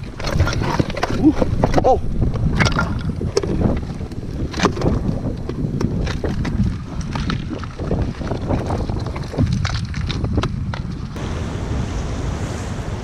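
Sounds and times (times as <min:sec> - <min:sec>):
clicks of stones and shells: 0:00.0 - 0:11.2
wind buffeting microphone: 0:00.0 - 0:13.0.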